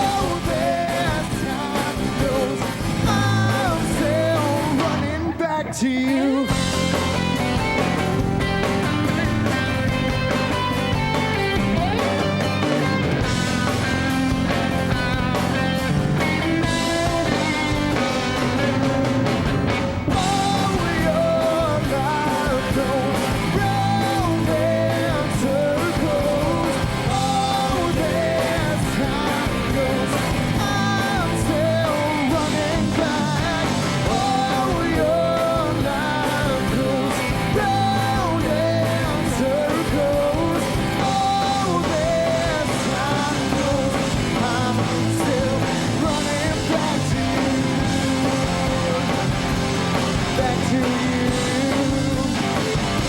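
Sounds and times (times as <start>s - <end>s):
lead guitar line: 0.0s - 53.0s
live rock band playing: 0.0s - 53.0s.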